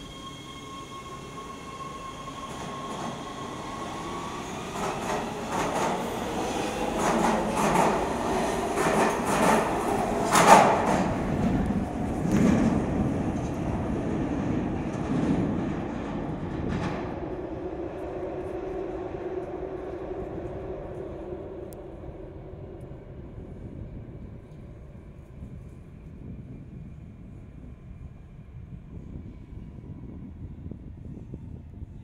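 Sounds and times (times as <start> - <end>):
subway train high whine: 0.0 - 32.0.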